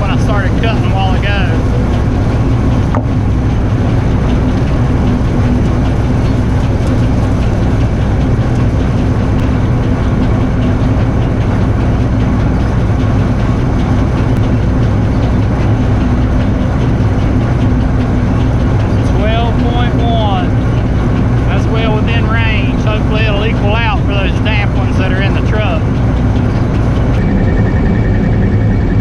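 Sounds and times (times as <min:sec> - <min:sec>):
combine harvester drone: 0:00.0 - 0:29.0.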